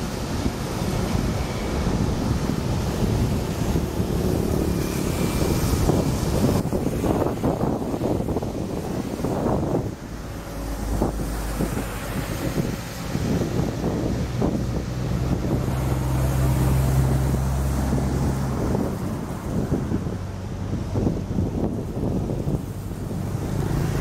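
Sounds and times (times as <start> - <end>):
truck engine drone: 0.0 - 24.0
tyres splashing through water: 0.0 - 24.0.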